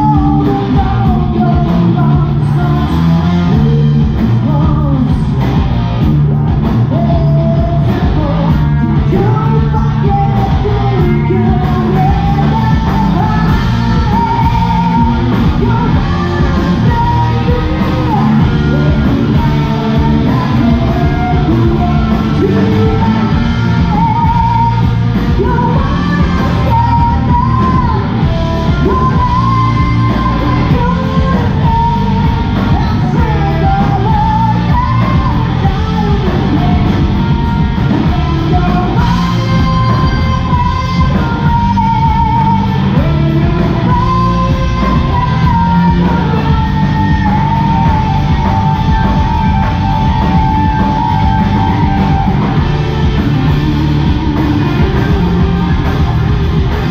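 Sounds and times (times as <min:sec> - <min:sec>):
live rock band: 0:00.0 - 0:56.9
woman singing and shouting: 0:06.9 - 0:55.8.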